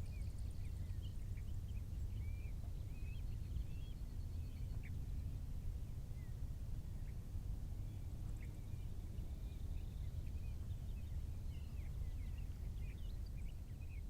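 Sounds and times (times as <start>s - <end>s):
small birds chirping: 0.0s - 5.4s, 6.1s - 14.0s
constant low rumble: 0.0s - 14.0s.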